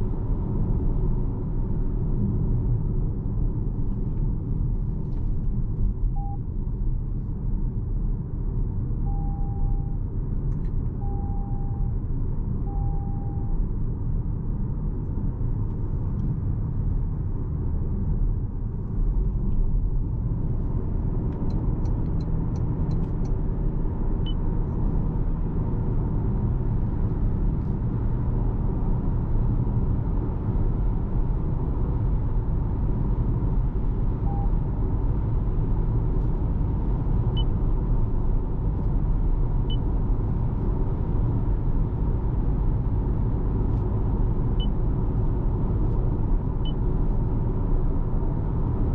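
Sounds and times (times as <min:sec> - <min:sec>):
road and tyre rumble: 0:00.0 - 0:48.9.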